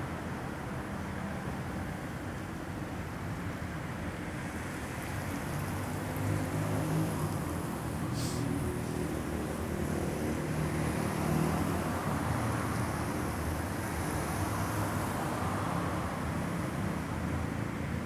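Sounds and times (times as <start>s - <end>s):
low rumble of street ambience: 0.0s - 18.0s.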